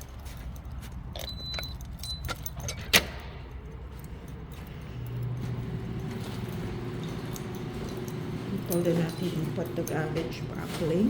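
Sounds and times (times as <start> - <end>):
steady low hum: 0.0 - 10.8
keys jangling: 0.0 - 11.0.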